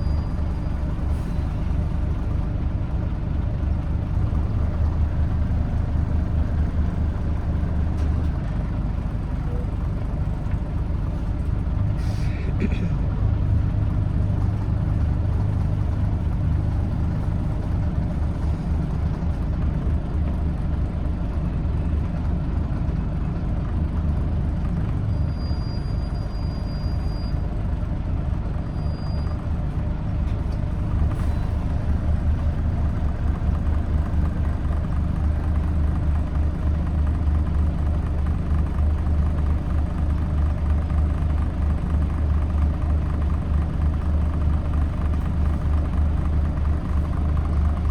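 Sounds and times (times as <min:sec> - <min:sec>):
bus diesel engine humming: 0:00.0 - 0:47.9.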